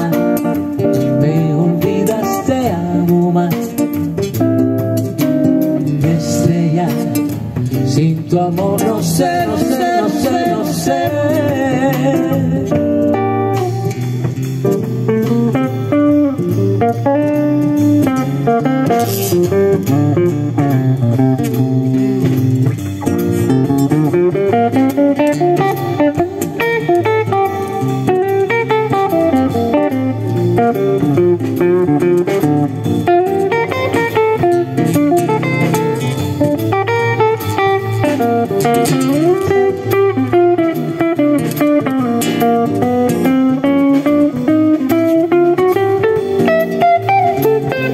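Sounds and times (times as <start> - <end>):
bass line: 0.0 - 47.9
drums: 0.0 - 47.9
guitar solo: 0.0 - 47.9.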